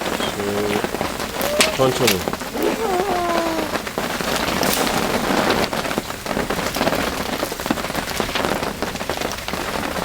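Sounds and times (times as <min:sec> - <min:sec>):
rain drops tapping: 0:00.0 - 0:10.0.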